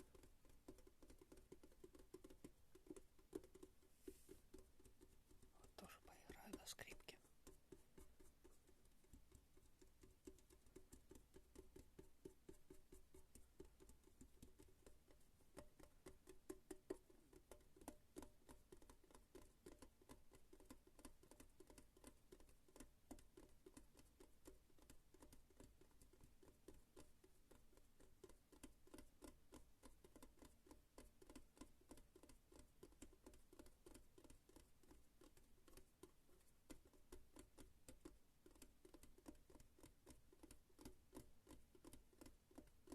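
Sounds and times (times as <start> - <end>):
fingertip tapping: 0.0 - 42.9.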